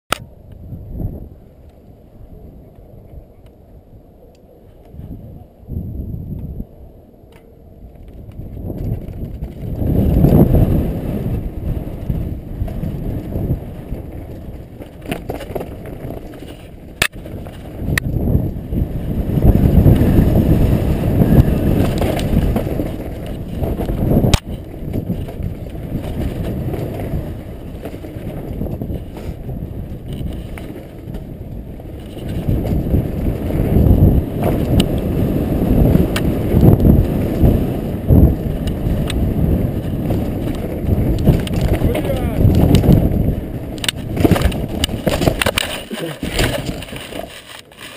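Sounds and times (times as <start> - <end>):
knobby tyres rumbling on trail: 0.1 - 47.9
wind on microphone: 0.1 - 47.9
bike knocking and rattling: 7.3 - 47.9.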